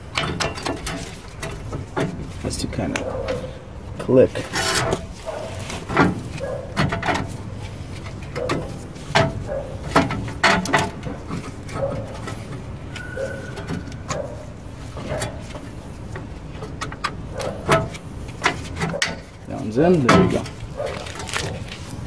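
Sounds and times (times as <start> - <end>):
metal clicks and knocks: 0.0 - 3.5, 5.7 - 21.8.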